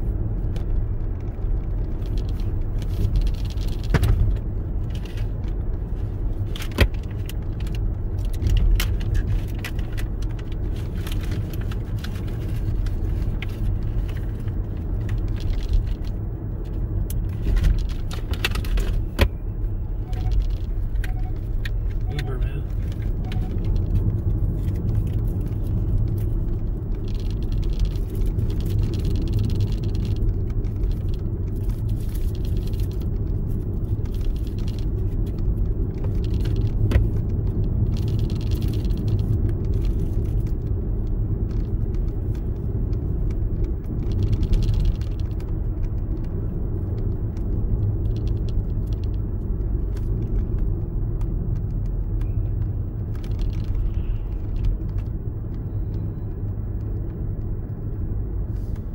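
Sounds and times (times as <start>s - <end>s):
car driving rumble: 0.0s - 58.9s.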